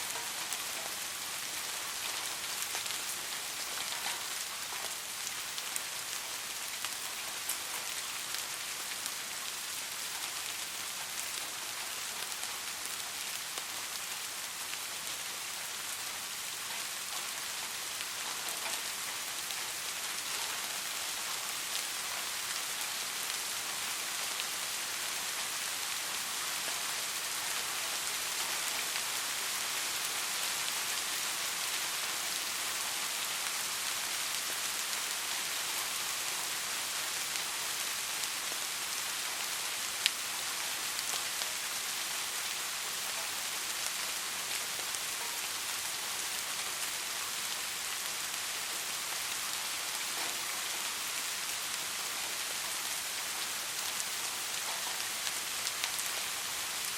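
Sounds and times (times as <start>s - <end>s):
soft rain falling: 0.0s - 56.9s.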